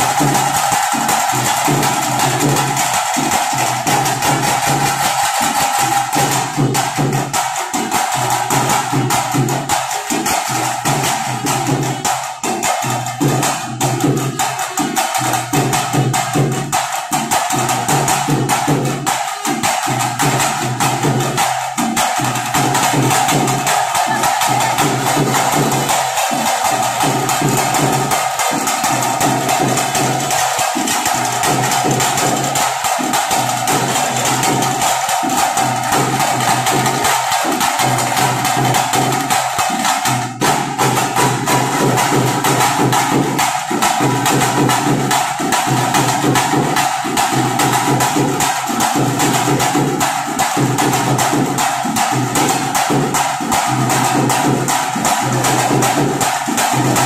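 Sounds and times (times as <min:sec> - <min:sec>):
fast stick drumming: 0:00.0 - 0:57.0.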